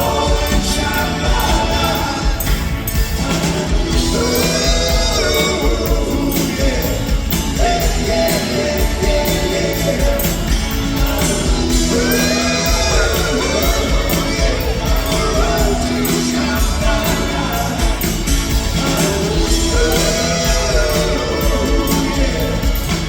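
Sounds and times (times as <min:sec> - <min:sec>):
live rock band playing: 0:00.0 - 0:23.0
person singing: 0:00.0 - 0:23.0
steady drum beat: 0:00.0 - 0:23.0.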